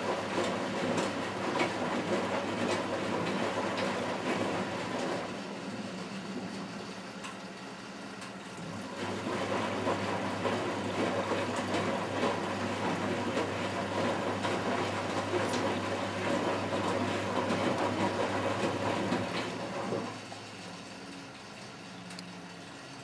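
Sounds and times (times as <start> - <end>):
laundry and water sloshing: 0.0 - 23.0
washing machine motor hum: 0.0 - 23.0.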